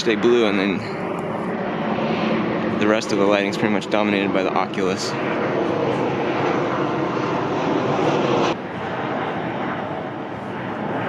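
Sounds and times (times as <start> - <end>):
jet aircraft engines rushing: 0.0 - 11.0.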